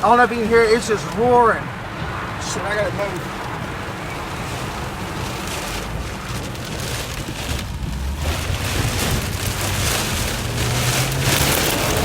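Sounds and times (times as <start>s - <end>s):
car engine running low: 0.0s - 12.0s
heavy rain on a car: 0.0s - 12.0s
wind: 0.0s - 12.0s.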